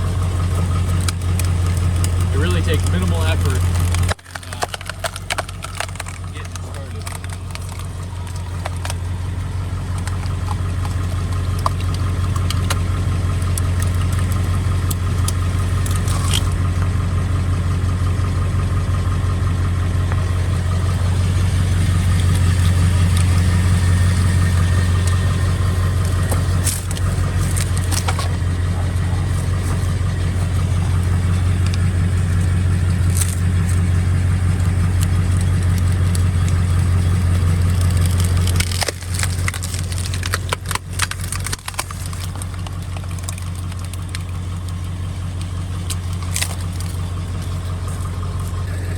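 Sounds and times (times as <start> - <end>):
log cracking on splitter cone: 0.0 - 48.9
truck engine running: 0.0 - 48.9.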